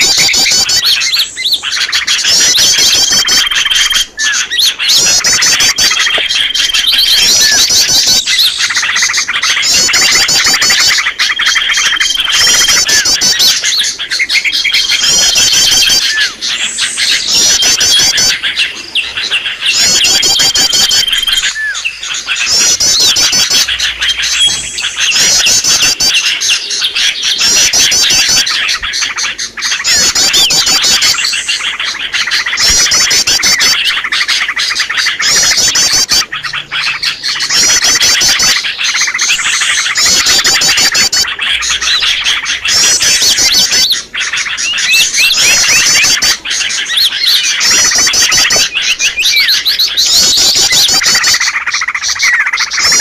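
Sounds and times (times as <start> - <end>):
fast bird trills: 0.0 - 53.0
high bird whistles: 0.0 - 53.0
songbirds chirping and chattering: 0.0 - 53.0.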